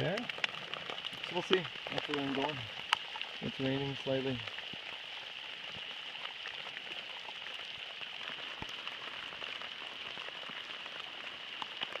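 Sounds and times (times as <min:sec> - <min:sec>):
light rain hissing: 0:00.0 - 0:12.0
raindrops ticking nearby: 0:00.0 - 0:12.0.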